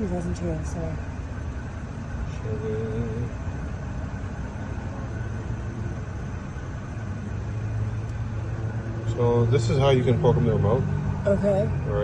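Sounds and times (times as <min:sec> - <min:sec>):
outdoor background noise: 0:00.0 - 0:12.0
vehicle engine idling: 0:00.0 - 0:12.0.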